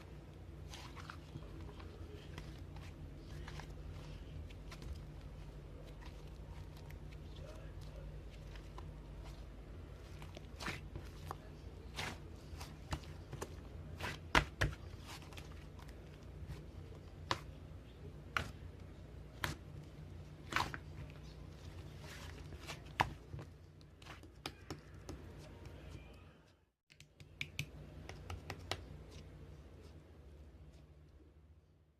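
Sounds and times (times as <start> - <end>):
low steady hum: 0.0 - 31.9.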